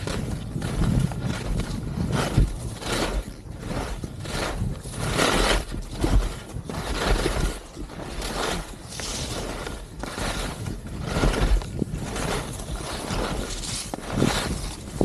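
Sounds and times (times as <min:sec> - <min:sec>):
skis scraping on packed snow: 0:00.0 - 0:15.0
wind rumble on microphone: 0:00.0 - 0:15.0.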